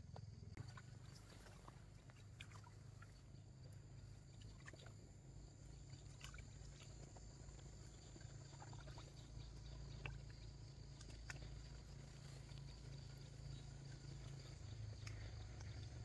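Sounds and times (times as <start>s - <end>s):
steady low hum: 0.0s - 16.0s
water splashes and drips: 0.6s - 16.0s.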